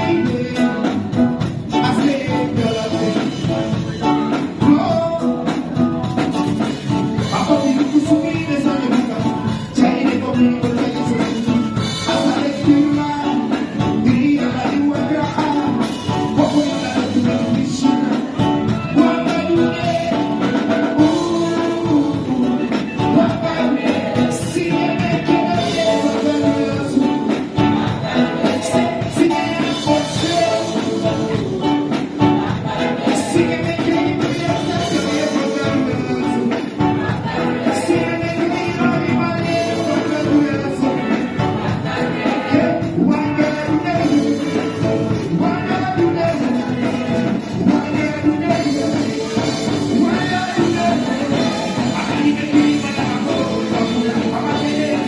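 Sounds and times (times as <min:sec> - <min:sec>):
backing vocalists singing: 0:00.0 - 0:55.0
drum kit: 0:00.0 - 0:55.0
electric bass: 0:00.0 - 0:55.0
electric guitar: 0:00.0 - 0:55.0
keyboard: 0:00.0 - 0:55.0
lead singer singing: 0:00.0 - 0:55.0.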